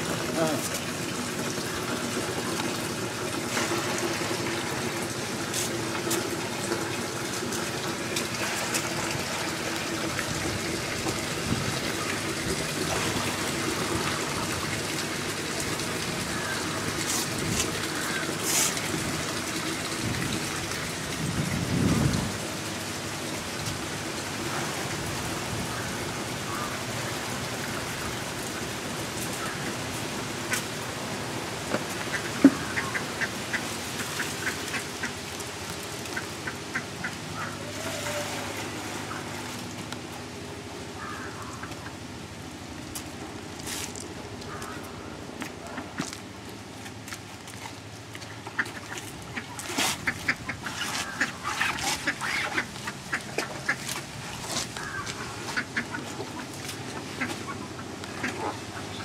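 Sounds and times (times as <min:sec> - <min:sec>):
splashing rush of liquid: 0:00.0 - 0:45.0, 0:46.0 - 0:59.0.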